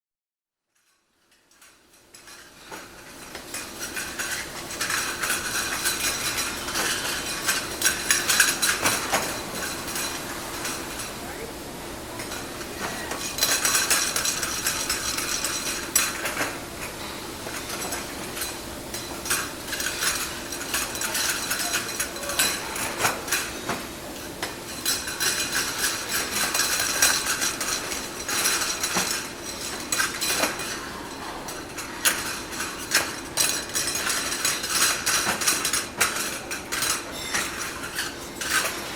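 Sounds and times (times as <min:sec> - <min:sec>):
porcelain crockery clinking: 0:01.6 - 0:11.1, 0:12.2 - 0:23.7, 0:24.4 - 0:38.9.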